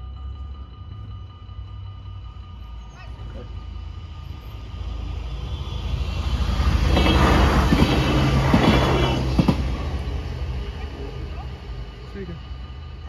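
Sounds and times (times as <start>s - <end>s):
crossing warning bells ringing: 0.0s - 13.0s
train passing: 0.0s - 13.0s.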